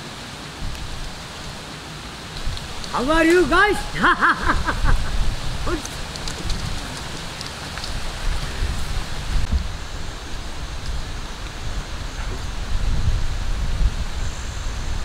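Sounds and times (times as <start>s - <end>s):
wind noise on microphone: 0.0s - 1.6s, 2.3s - 15.0s.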